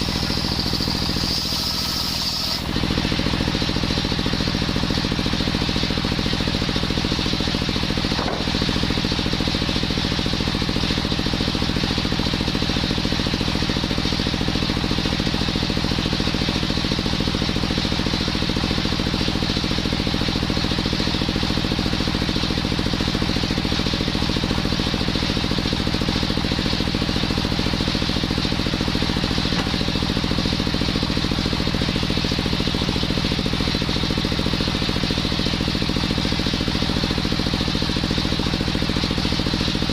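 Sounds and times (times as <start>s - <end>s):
circular wood saw running: 0.0s - 39.9s.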